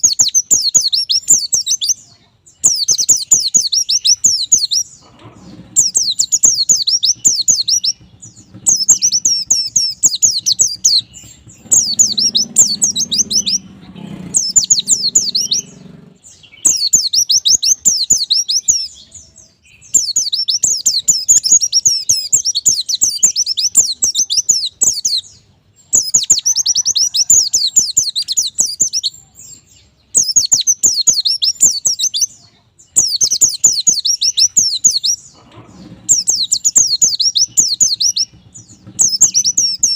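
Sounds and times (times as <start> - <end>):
white-eye bird twittering song: 0.0 - 39.9.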